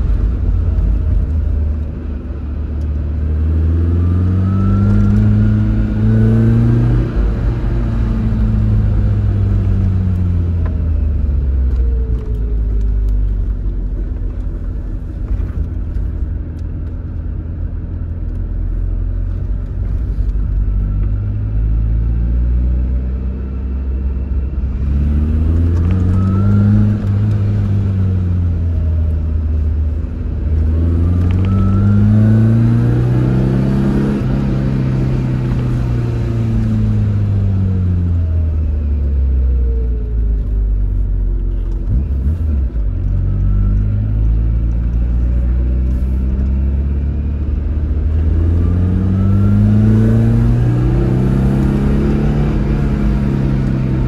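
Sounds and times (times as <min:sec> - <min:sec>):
car engine revving: 0:00.0 - 0:11.8, 0:19.3 - 0:39.1, 0:41.5 - 0:54.0.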